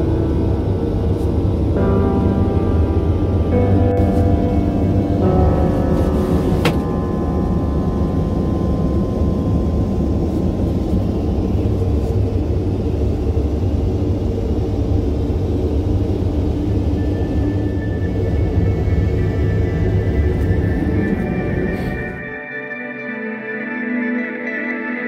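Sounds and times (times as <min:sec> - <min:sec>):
airliner cabin rumble: 0:00.0 - 0:22.2.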